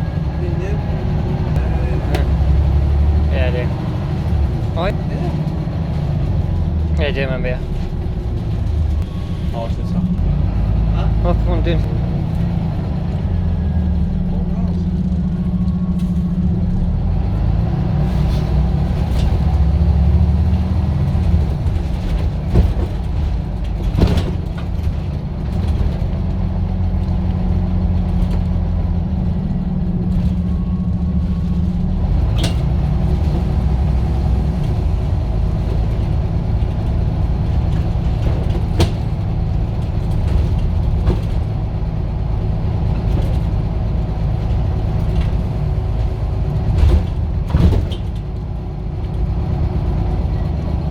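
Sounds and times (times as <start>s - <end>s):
bus diesel engine droning: 0.0s - 50.9s.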